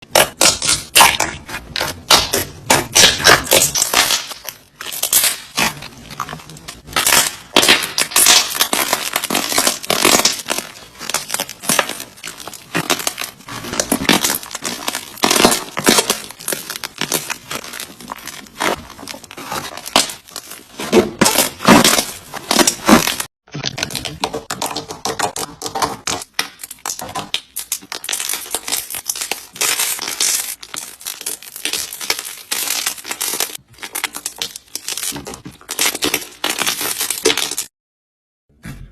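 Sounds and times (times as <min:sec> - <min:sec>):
slime crackling and popping: 0:00.1 - 0:37.7.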